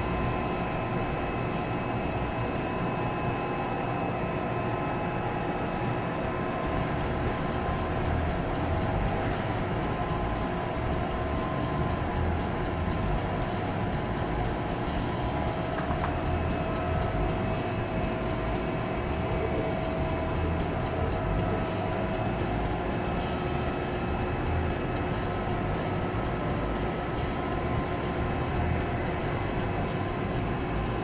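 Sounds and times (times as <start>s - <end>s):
faint machine whine: 0.0s - 31.0s
lathe hum with low rumble: 0.0s - 31.0s.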